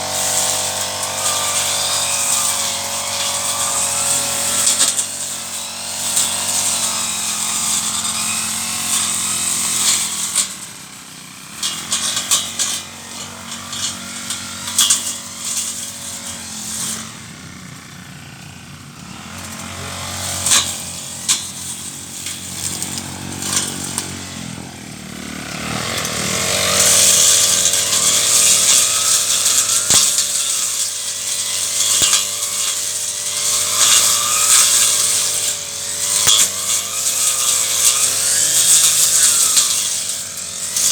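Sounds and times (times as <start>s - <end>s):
brush cutter engine revving: 0.0s - 40.9s.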